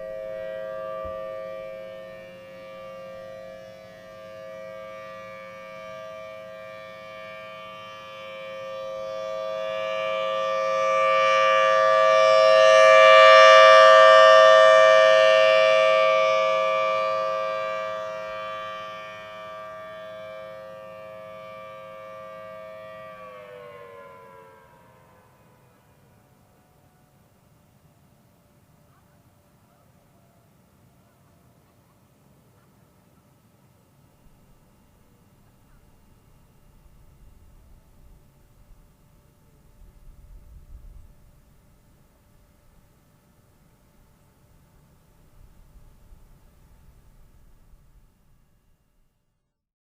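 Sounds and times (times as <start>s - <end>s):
warning siren steady tone: 0.0s - 49.6s.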